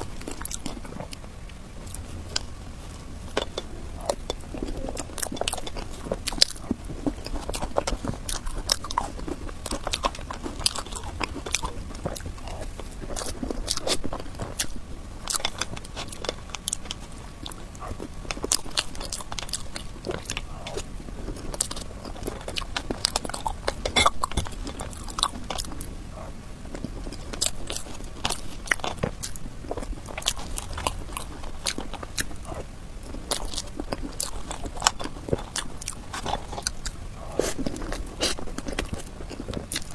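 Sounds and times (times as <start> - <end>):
chewing soft cake: 0.0 - 39.9.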